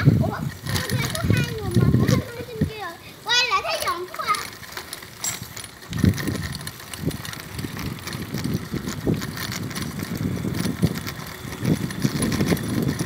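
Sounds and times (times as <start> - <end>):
bicycle rattles and knocks: 0.0 - 13.0
bicycle tyres rumbling: 0.0 - 13.0.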